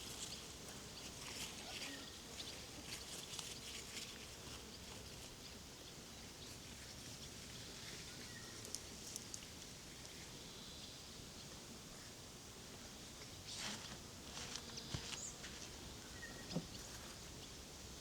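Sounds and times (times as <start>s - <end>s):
faint farmyard ambience: 0.0s - 18.0s.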